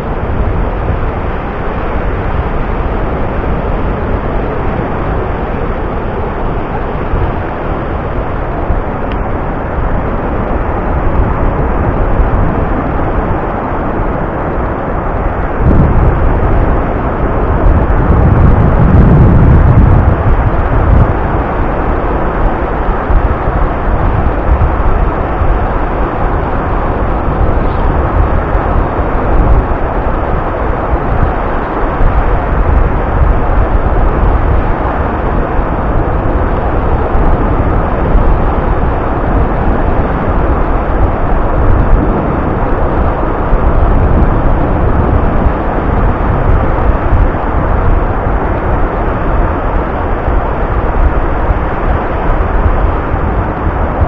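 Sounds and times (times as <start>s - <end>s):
surf breaking on sand: 0.0s - 54.0s.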